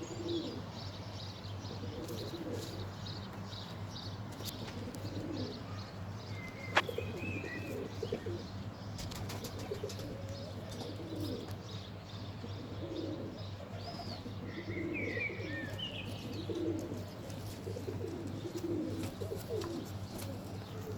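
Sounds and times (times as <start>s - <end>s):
pigeons cooing: 0.0s - 20.9s.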